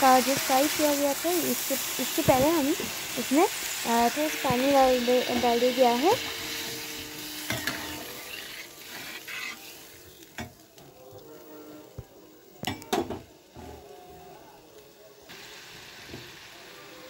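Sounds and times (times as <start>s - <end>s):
gravy sizzling in pan: 0.0s - 10.9s, 13.3s - 17.0s.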